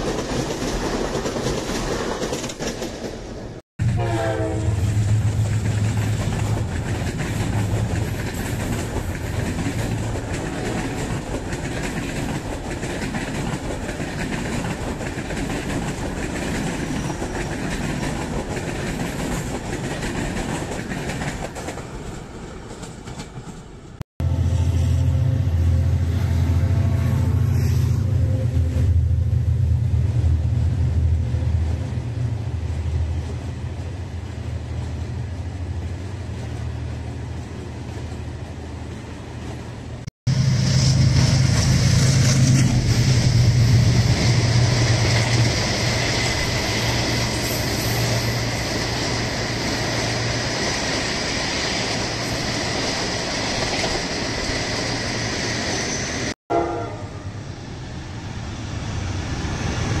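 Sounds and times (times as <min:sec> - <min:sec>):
diesel locomotive approaching: 0:00.0 - 1:00.0
train rumbling on rails: 0:00.0 - 1:00.0.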